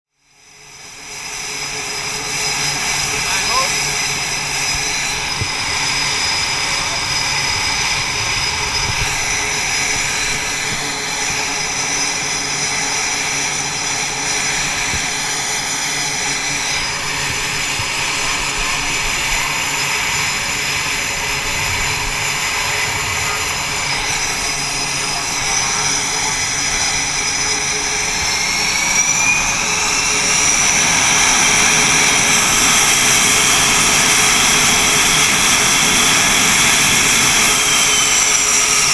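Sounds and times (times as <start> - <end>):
jet engines whining: 0.3 - 38.9.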